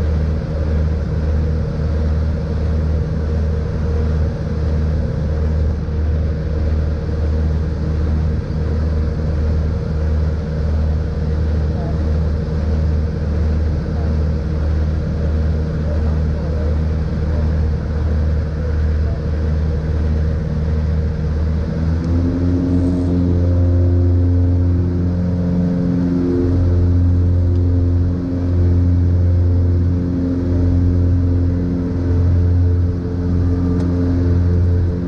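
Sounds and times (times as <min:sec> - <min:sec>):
airplane engines droning: 0:00.0 - 0:35.0
higher hum: 0:01.0 - 0:35.0.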